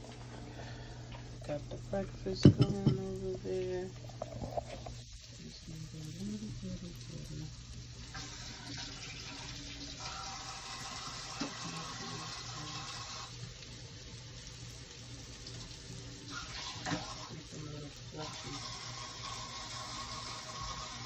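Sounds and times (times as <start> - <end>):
water running from kitchen tap: 0.0 - 21.0.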